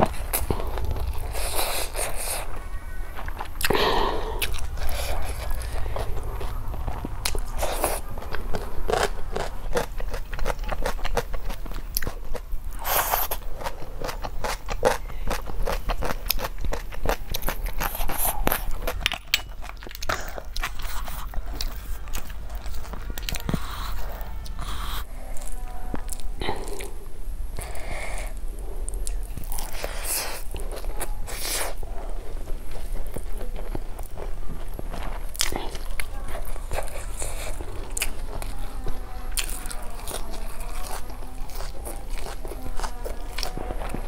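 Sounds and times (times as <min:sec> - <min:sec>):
chewing and mouth smacks: 0:03.2 - 0:27.0, 0:28.8 - 0:44.0.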